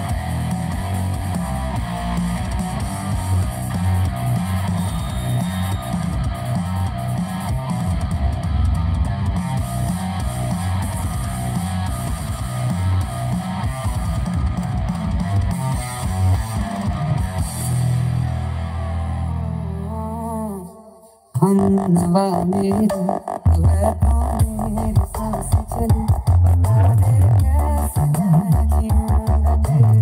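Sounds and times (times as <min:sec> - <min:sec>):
loud rock music with heavy bass: 0:00.0 - 0:20.2, 0:21.4 - 0:30.0.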